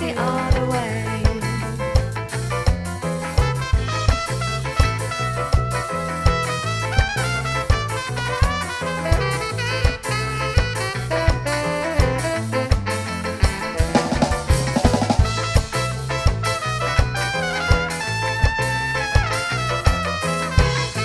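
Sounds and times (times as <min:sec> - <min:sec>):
bass and drum beat: 0:00.0 - 0:21.0
drum roll: 0:00.0 - 0:21.0
horn section melody: 0:03.1 - 0:21.0.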